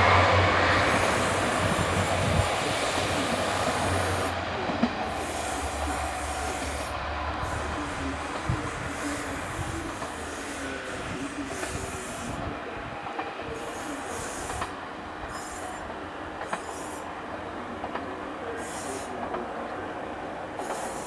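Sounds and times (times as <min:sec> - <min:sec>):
train engine and wheels rumbling: 0:00.0 - 0:21.0.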